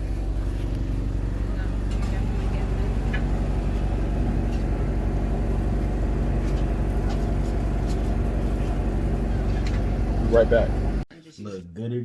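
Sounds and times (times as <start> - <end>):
low engine hum: 0.0 - 11.1.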